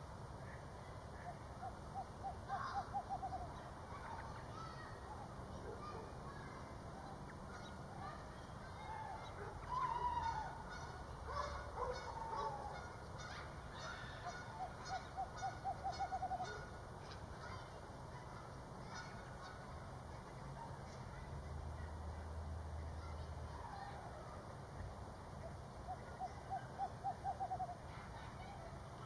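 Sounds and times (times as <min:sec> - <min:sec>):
bird calls: 0:00.5 - 0:21.2, 0:24.8 - 0:29.0.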